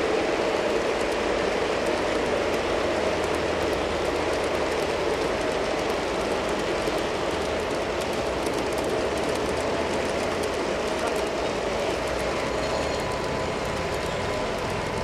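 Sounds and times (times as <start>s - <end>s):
model trains rolling on track: 0.0s - 15.0s
rapid wheel clicks: 1.8s - 15.0s.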